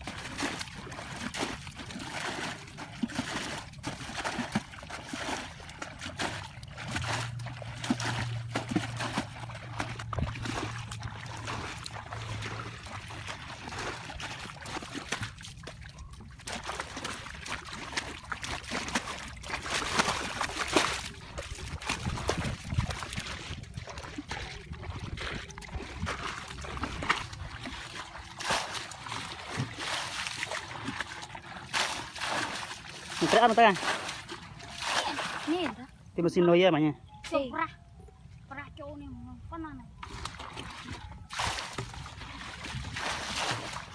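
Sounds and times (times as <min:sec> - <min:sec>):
muddy water splashing: 0:00.0 - 0:37.7, 0:38.4 - 0:43.9.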